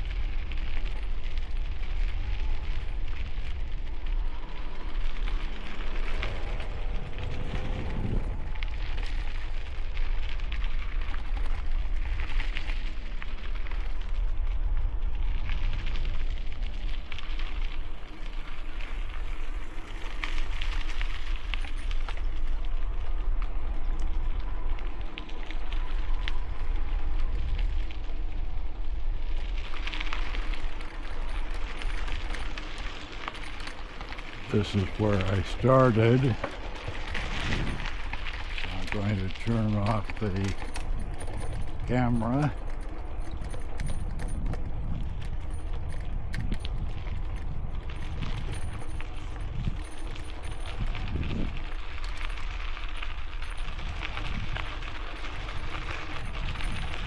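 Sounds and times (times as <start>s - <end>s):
small crackles and ticks: 0.0s - 57.0s
wind buffeting microphone: 0.0s - 57.0s.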